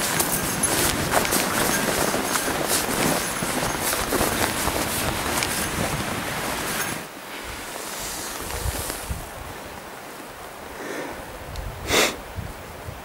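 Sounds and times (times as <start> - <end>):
wind rushing over microphone: 0.0 - 10.0, 11.1 - 13.0.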